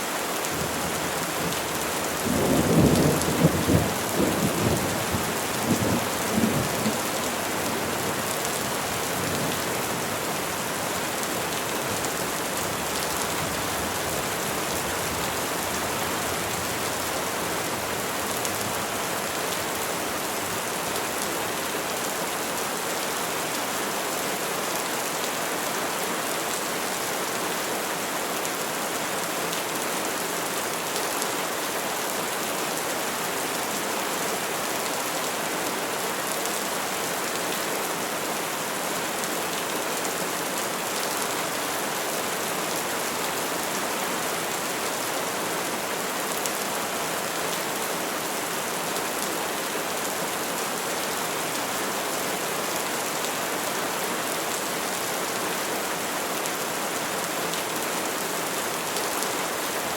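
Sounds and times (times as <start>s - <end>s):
dense rain falling on trees: 0.0s - 59.9s.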